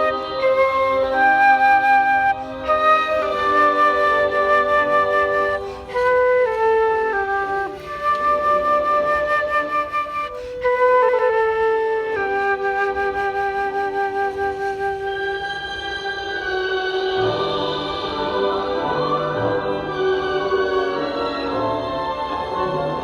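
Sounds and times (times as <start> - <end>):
flute-like melody: 0.0 - 23.0.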